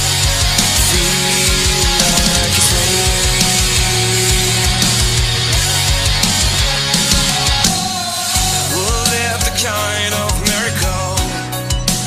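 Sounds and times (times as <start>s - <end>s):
held bass notes: 0.0s - 11.8s
fast driving drum beat: 0.0s - 12.0s.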